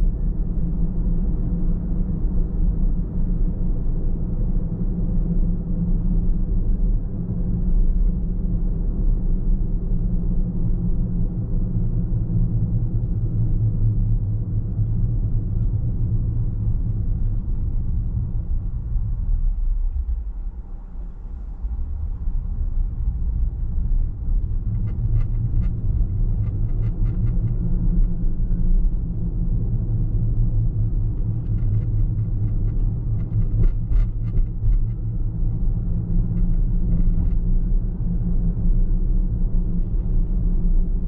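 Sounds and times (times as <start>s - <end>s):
car tyres and engine rumble: 0.0s - 41.0s.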